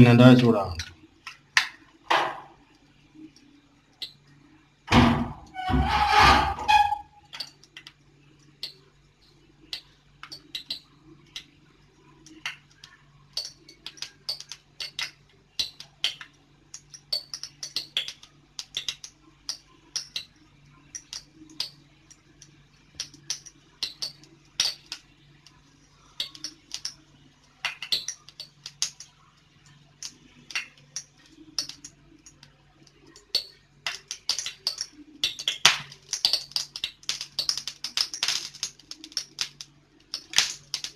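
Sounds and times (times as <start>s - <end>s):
oil crackling and popping in pan: 1.1s - 4.5s, 5.8s - 40.9s.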